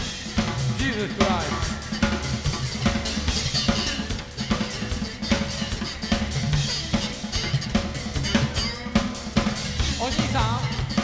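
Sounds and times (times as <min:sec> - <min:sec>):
electric bass: 0:00.0 - 0:11.0
rock drum kit beat: 0:00.0 - 0:11.0.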